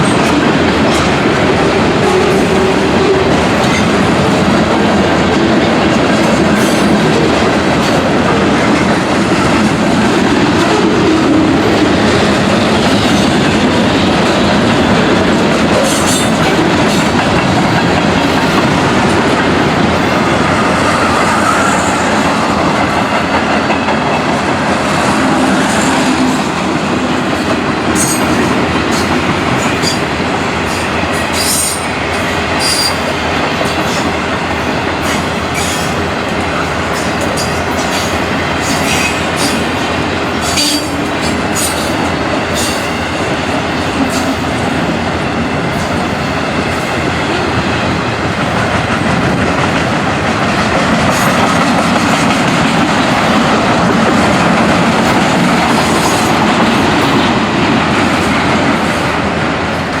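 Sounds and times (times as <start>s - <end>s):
freight train rolling past: 0.0s - 60.0s.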